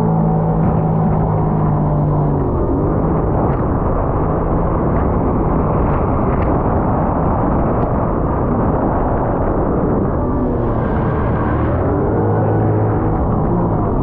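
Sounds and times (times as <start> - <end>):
jet ski engine drone: 0.0 - 14.0
wind noise: 0.0 - 14.0.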